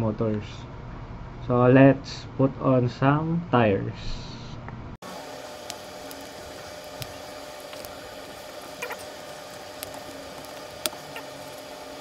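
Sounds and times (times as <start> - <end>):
steady low hum: 0.6 - 12.0.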